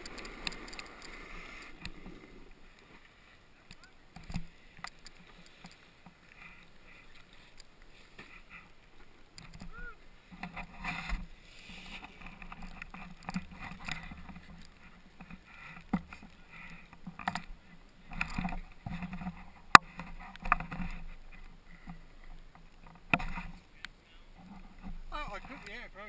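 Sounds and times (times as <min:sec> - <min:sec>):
microphone scraping and rustling: 0:04.2 - 0:26.0.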